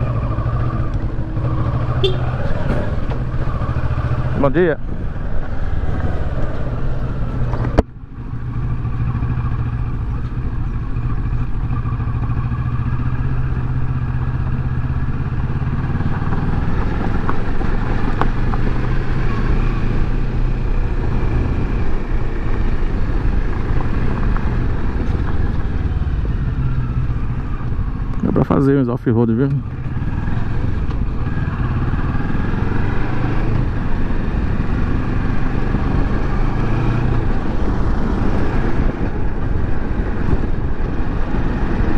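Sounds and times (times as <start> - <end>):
motorcycle engine running: 0.0 - 28.6, 29.4 - 41.9
tyre and road noise: 0.0 - 41.9.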